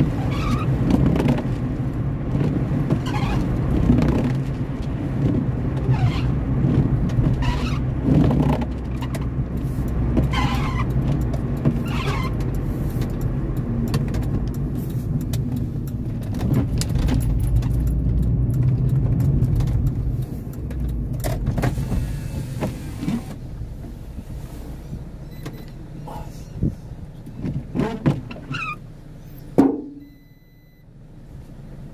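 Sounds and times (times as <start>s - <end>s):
windscreen wiper strokes: 0.0s - 29.5s
car engine and tyre noise: 0.0s - 31.9s.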